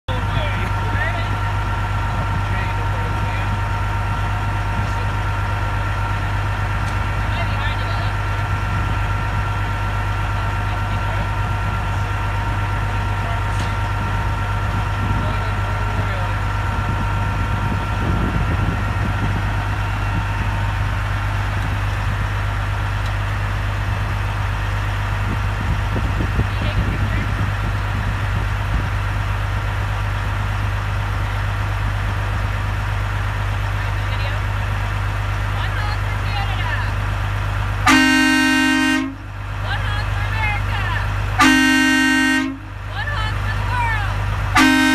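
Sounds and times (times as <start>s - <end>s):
diesel truck engine idling: 0.1s - 44.9s.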